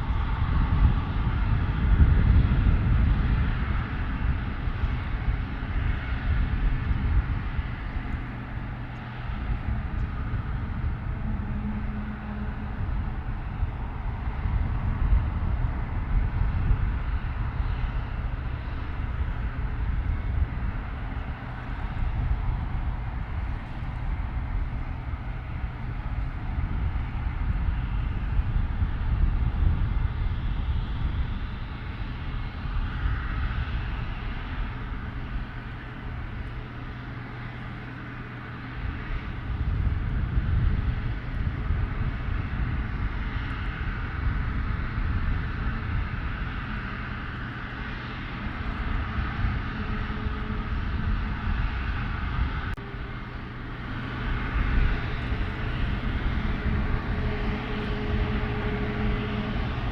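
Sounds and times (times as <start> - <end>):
airliner engine rumble: 0.0 - 59.9.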